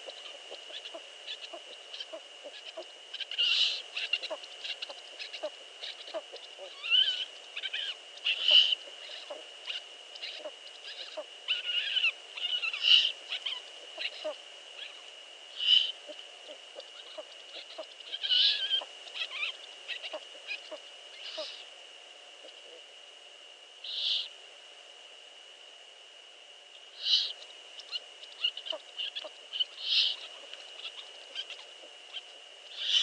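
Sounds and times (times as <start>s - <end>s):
owls hissing calls: 0.0s - 21.7s, 23.8s - 24.4s, 26.9s - 33.0s
faint high-pitched whine: 0.0s - 33.0s.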